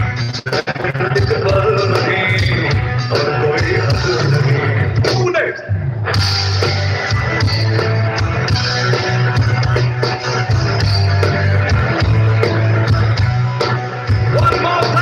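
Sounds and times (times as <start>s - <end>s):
electric guitar: 0.0s - 15.0s
heavy booming bass line: 0.0s - 15.0s
live rock band playing loud: 0.0s - 15.0s.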